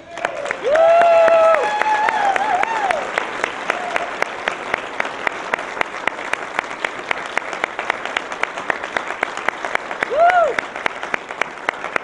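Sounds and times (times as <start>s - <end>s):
audience applauding: 0.0s - 12.0s
close loud even clapping: 0.0s - 12.0s.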